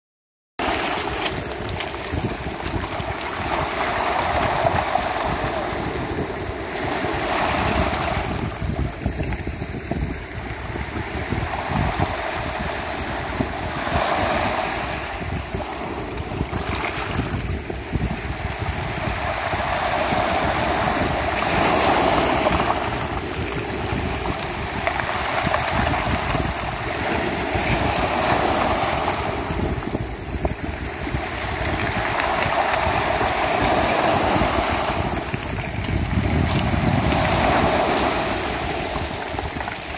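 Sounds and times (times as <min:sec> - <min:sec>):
waves on pebble beach: 0:00.6 - 0:39.9.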